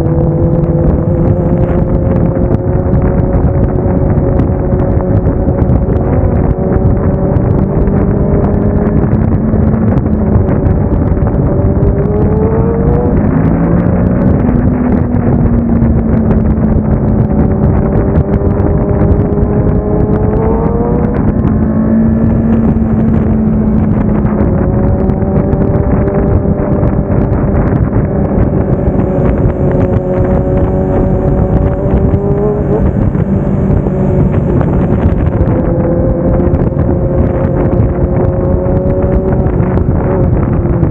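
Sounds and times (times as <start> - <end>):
motorcycle engine revving: 0.0 - 40.9
wind rushing over microphone: 0.0 - 40.9.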